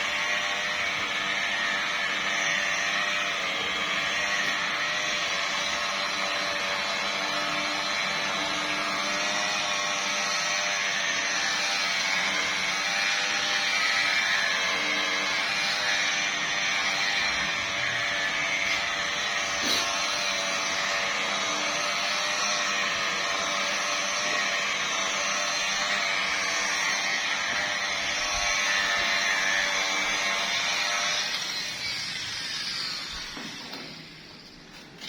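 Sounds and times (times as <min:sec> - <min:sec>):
polishing machine motor whine: 0:00.0 - 0:35.0.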